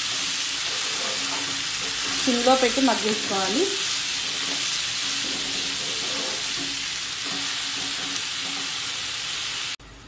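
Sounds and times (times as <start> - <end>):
metal spatula stirring: 0.0 - 8.9
vegetables sizzling in hot oil: 0.0 - 9.8.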